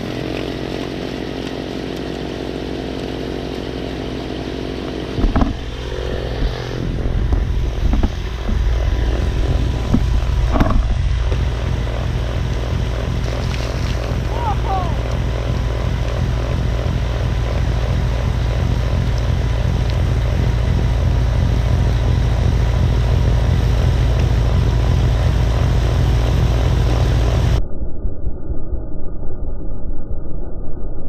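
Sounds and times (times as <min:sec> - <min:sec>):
snowblower engine running: 0:00.0 - 0:27.6.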